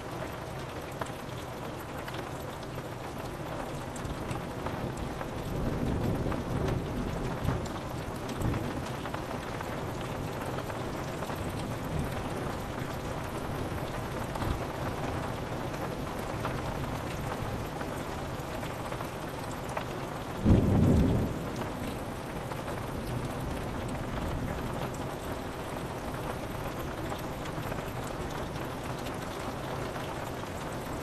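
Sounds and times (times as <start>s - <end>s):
rain pattering on window: 0.0s - 31.0s.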